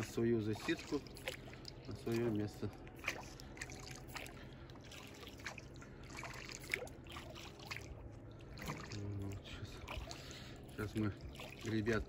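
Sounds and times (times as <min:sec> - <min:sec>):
distant motorboat drone: 0:00.0 - 0:12.0
water trickling and dripping: 0:00.0 - 0:12.0.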